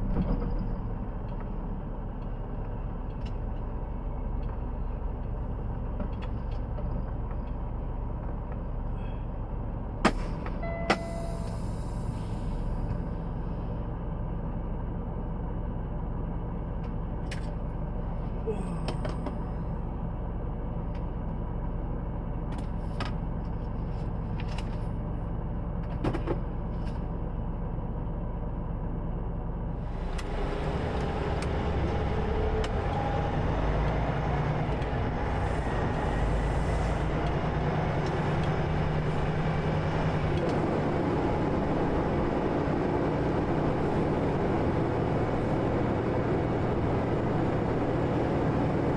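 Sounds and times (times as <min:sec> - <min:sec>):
truck engine low drone: 0:00.0 - 0:48.9.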